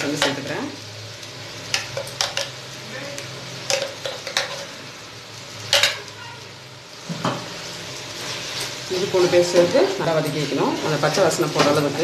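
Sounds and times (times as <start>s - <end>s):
low sizzle of frying: 0.0s - 12.0s.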